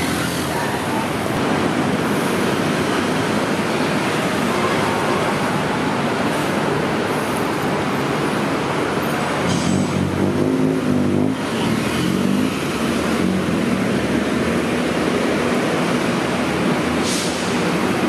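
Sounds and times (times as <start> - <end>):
cars passing by: 0.0 - 18.0.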